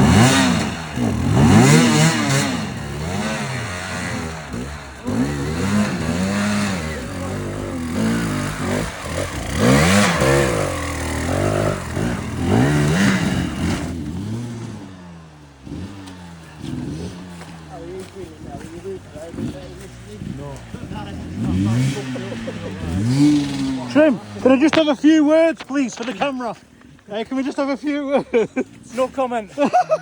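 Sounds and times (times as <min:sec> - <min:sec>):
motorcycle engine revving: 0:00.0 - 0:27.7.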